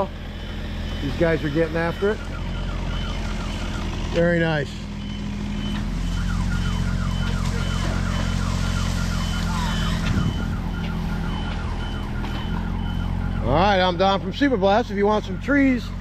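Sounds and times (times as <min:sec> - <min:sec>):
high warning beep: 0:00.9 - 0:14.5.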